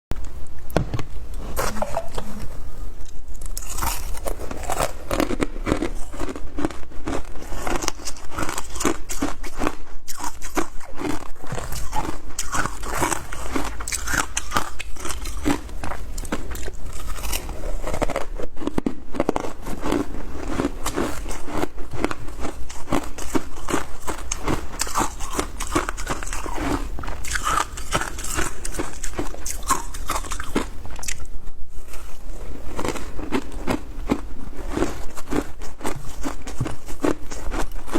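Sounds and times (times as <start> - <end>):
person crunching frozen ice: 3.4 - 31.3, 32.7 - 37.9.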